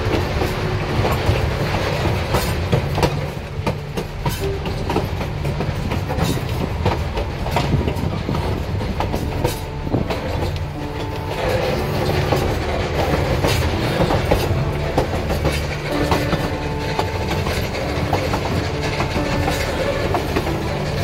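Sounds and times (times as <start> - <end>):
train rumbling along track: 0.0 - 21.0
wheels clacking over rails: 0.0 - 21.0.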